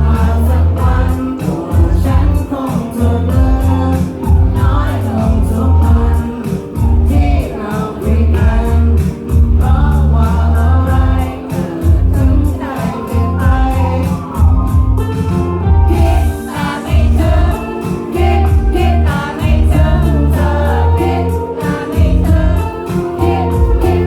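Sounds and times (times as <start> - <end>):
heavy bass line: 0.0 - 24.0
live pop-rock band: 0.0 - 24.0
person singing: 0.0 - 24.0
steady drum beat: 0.0 - 24.0.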